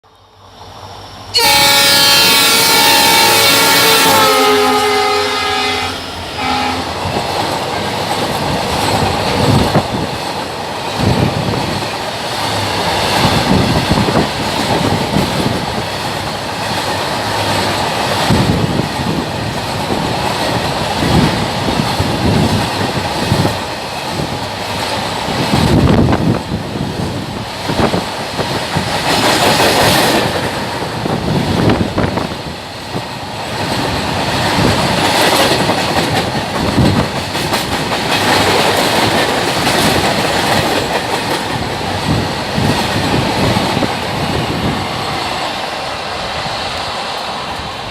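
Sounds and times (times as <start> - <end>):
train wheels clattering over rail joints: 7.0 - 45.6.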